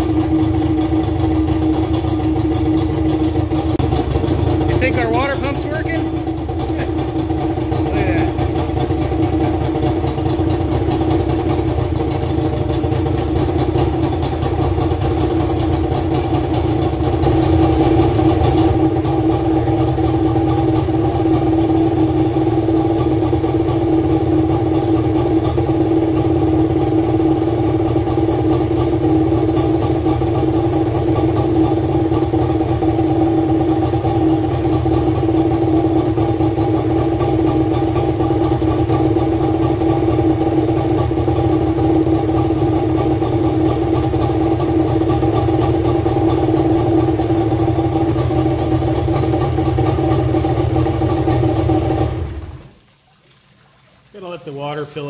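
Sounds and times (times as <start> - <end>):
outboard engine idling: 0.0 - 52.8, 54.1 - 55.0.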